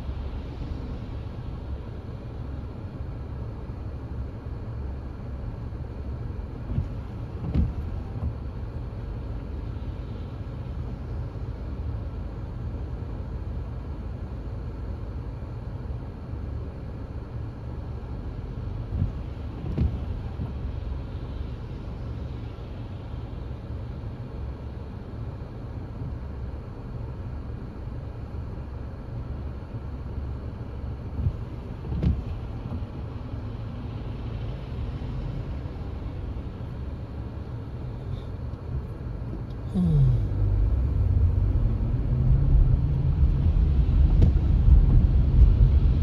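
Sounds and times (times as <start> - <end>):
car driving slowly heard inside cabin: 0.0 - 46.0.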